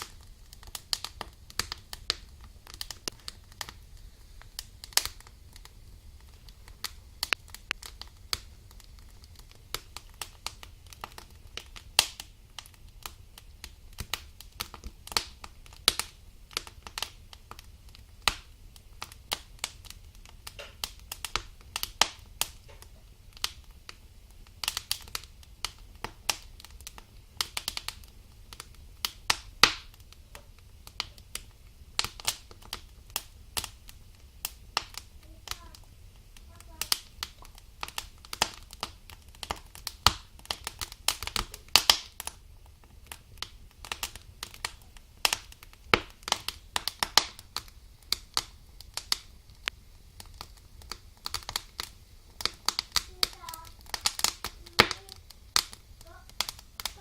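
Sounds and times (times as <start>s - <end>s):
logs crackling in fireplace: 0.0s - 57.0s.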